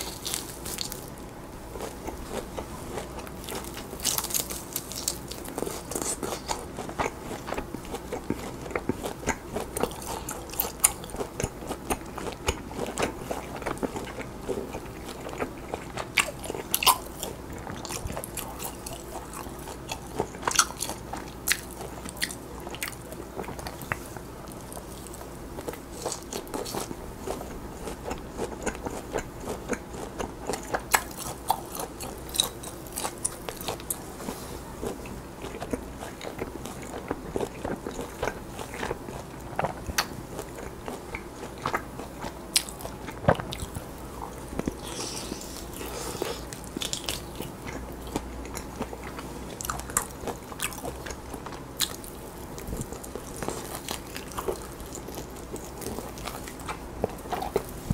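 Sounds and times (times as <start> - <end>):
crunchy biting and chewing: 0.0 - 57.9.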